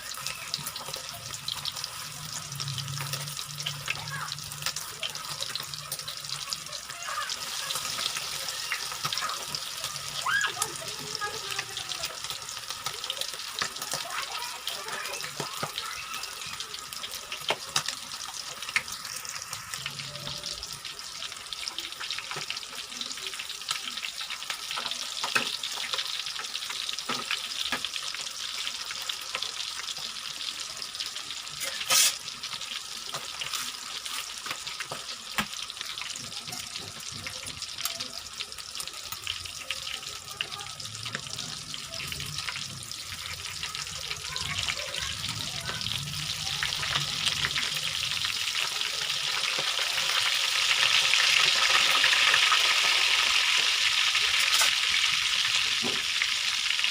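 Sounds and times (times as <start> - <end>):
chicken sizzling in hot oil: 0.0 - 56.9.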